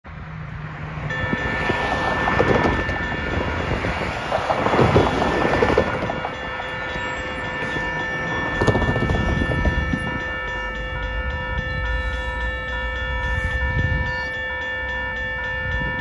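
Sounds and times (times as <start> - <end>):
railroad crossing bell ringing: 1.0 - 16.0.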